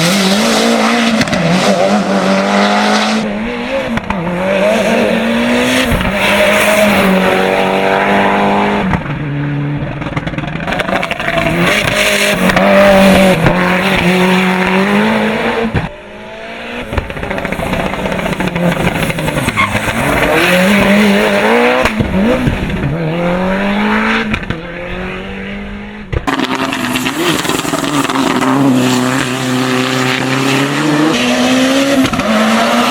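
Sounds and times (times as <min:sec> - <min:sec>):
car engine at full throttle: 0:00.0 - 0:32.9.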